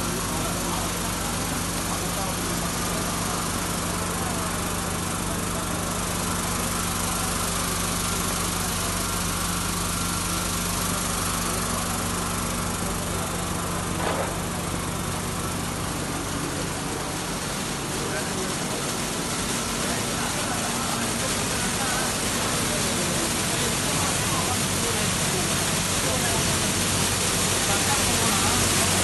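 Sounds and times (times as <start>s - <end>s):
continuous hiss: 0.0s - 29.0s.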